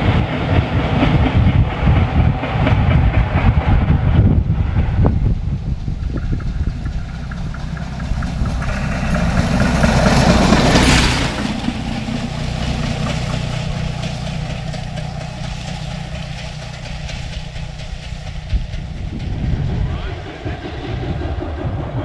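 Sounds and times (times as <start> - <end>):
locomotive engine droning: 0.0 - 22.0
loud rushing hiss: 3.2 - 22.0.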